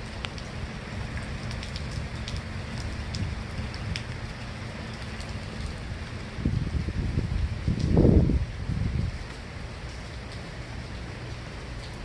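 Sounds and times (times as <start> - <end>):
heavy rain hissing: 0.0 - 12.0
sharp raindrop ticks: 0.0 - 12.0.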